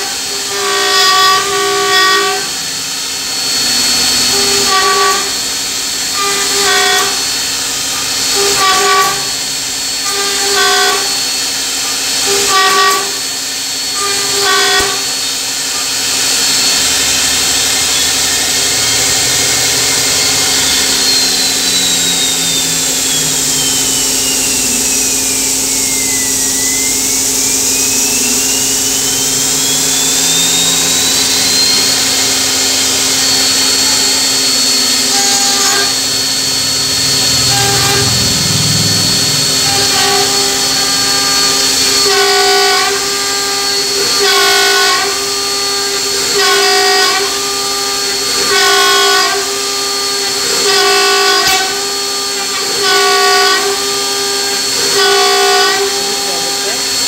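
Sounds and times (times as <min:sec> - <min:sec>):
milling machine cutting wood: 0:00.0 - 0:57.0
motor hum and high whine: 0:00.0 - 0:57.0.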